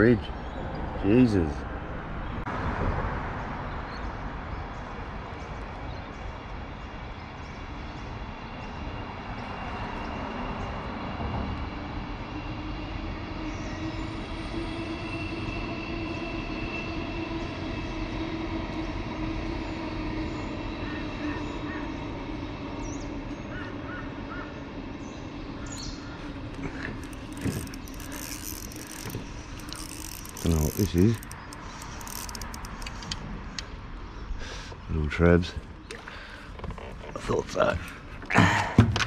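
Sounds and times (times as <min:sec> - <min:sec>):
vehicles rumbling over bridge: 0:00.0 - 0:07.4, 0:08.2 - 0:38.8.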